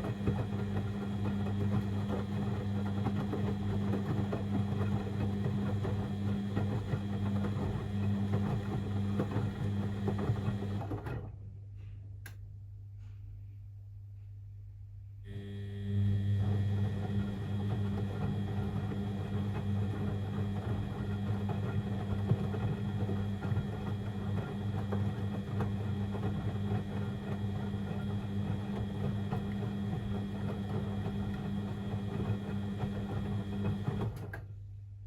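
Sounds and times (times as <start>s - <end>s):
washing machine churning: 0.0s - 11.3s, 15.8s - 34.4s
washing machine motor hum: 0.0s - 11.4s, 15.3s - 34.5s.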